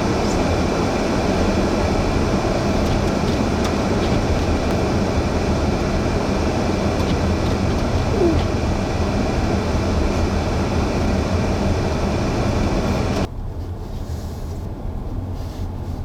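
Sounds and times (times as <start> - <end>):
road and wind noise inside car: 0.0 - 16.0.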